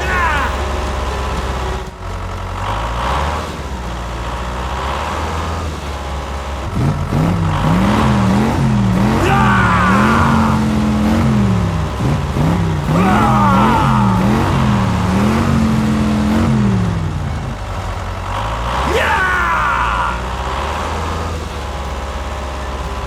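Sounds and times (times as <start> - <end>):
engine running and revving: 0.0 - 23.0.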